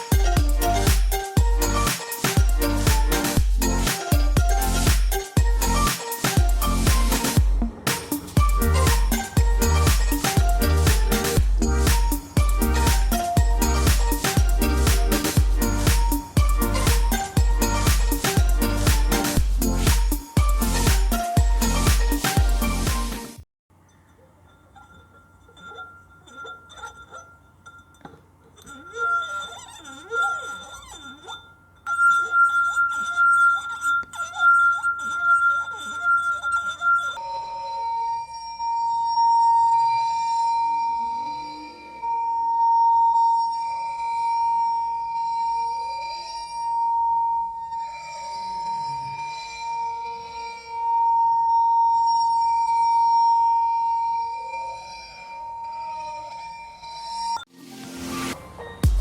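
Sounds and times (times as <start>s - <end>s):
steady high ringing tone: 0.0s - 23.0s, 23.8s - 57.5s.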